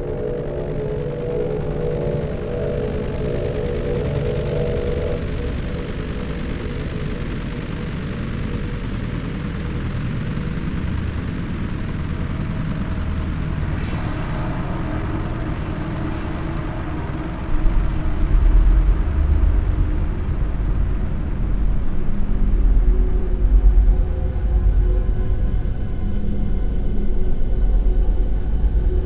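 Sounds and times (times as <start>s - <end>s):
ambient drone low rumble: 0.0s - 29.0s.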